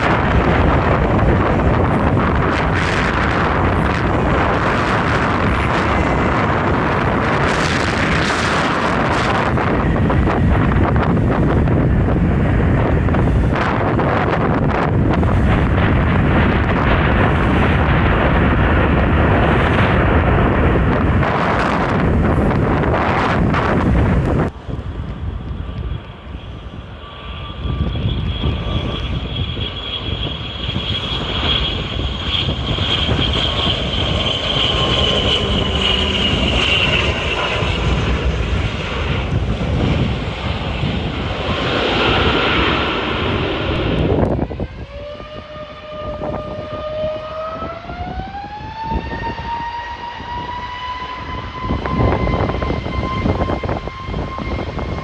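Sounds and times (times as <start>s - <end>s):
airliner engines whining: 0.0s - 55.0s
wind rumbling on microphone: 0.0s - 55.0s.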